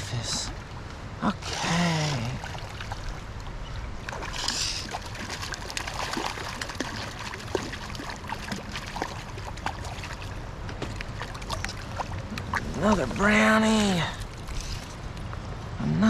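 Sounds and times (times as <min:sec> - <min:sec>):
water splashing: 0:00.0 - 0:15.5
stream water running: 0:00.0 - 0:15.8.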